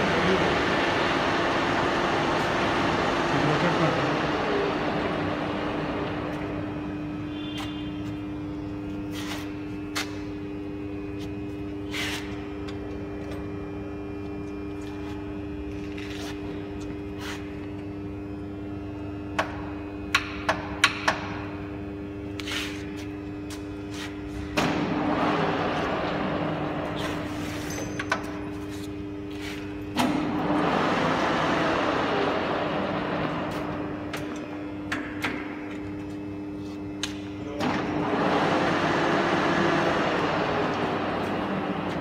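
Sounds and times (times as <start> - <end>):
boring machine humming: 0.0 - 42.0.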